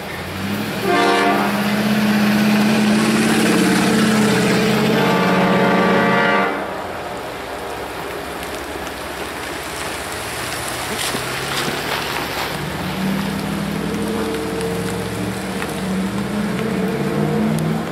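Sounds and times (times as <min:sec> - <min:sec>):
car passing with tyre noise: 0:00.0 - 0:17.9
vehicle engine humming: 0:00.0 - 0:17.9.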